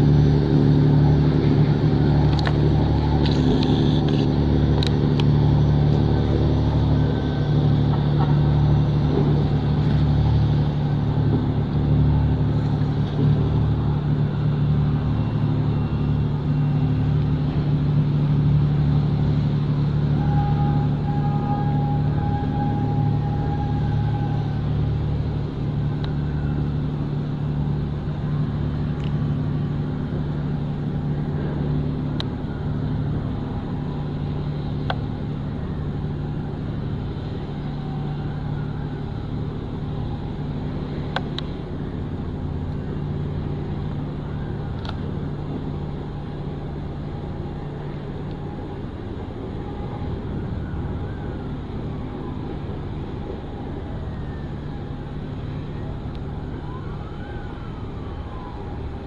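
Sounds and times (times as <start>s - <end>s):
ship engine hum: 0.0s - 59.0s.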